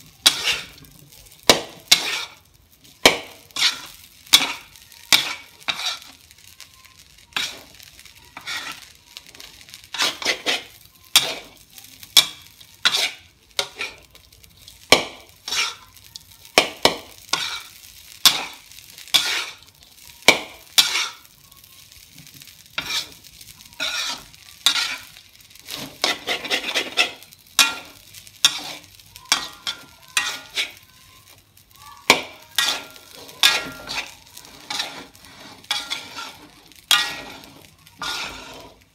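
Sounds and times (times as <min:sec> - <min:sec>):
metal spatula scraping a wok: 0:00.0 - 0:31.4, 0:32.0 - 0:38.9
rice sizzling faintly: 0:00.0 - 0:38.9.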